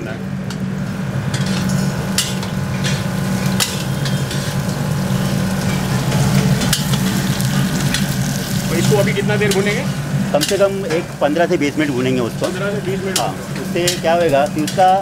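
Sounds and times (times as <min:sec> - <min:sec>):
steady low hum: 0:00.0 - 0:15.0
onions sizzling in hot oil: 0:00.8 - 0:15.0.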